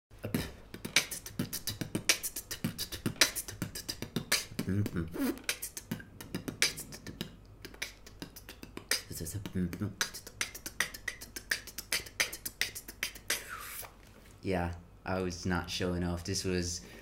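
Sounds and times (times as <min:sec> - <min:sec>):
man beatboxing: 0:00.2 - 0:13.9.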